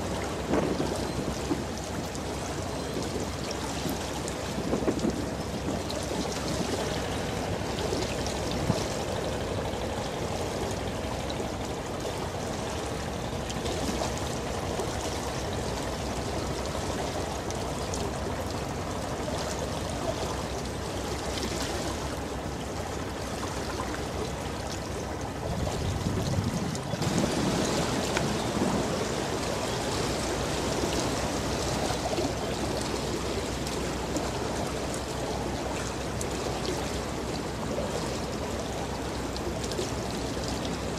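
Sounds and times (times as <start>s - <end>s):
water rushing and trickling: 0.0s - 40.9s.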